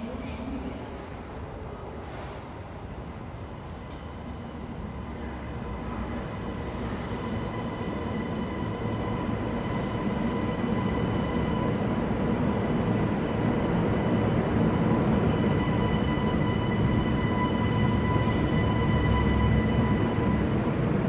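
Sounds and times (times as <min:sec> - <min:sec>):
train approaching: 0:00.0 - 0:21.0.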